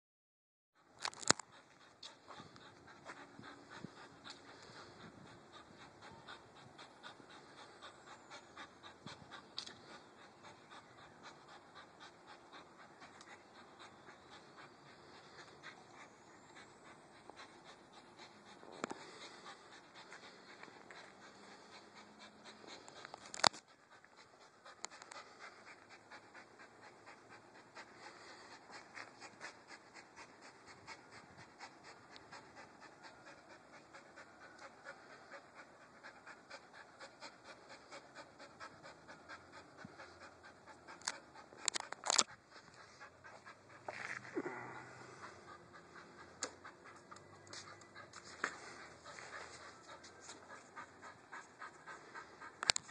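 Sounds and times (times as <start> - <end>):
dog panting hard: 1.0 - 52.9.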